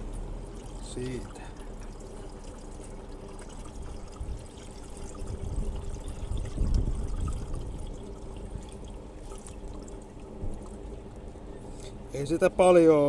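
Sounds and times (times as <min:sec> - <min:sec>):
fluid trickling from jug: 0:00.0 - 0:12.1.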